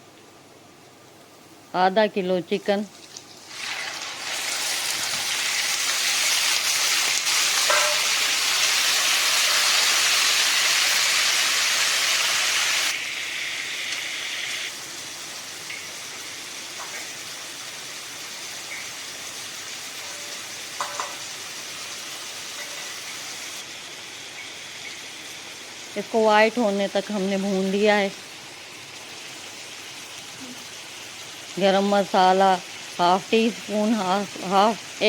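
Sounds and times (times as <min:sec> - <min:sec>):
chicken sizzling in hot oil: 0:02.9 - 0:35.0.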